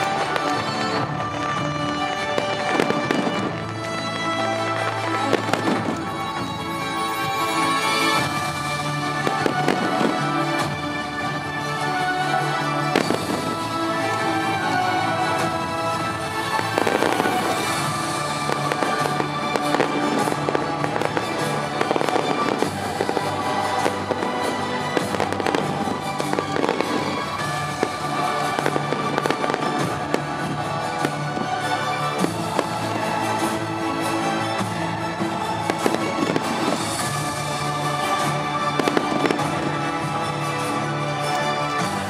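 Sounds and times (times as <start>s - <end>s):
background music: 0.0s - 42.0s
fireworks bursting: 0.0s - 42.0s.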